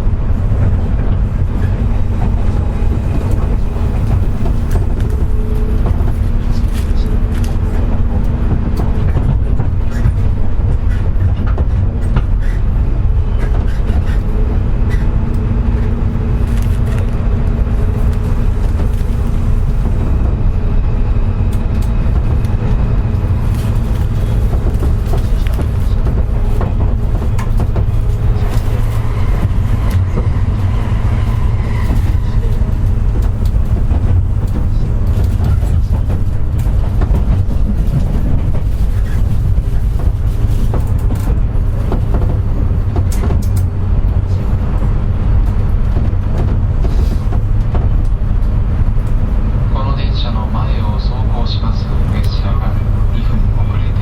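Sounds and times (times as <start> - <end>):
train low rumble: 0.0 - 54.0
wheels clicking on track: 0.0 - 54.0.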